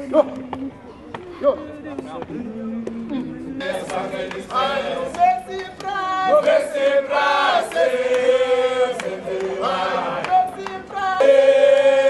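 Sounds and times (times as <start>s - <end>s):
crowd singing a chant: 2.1s - 12.0s.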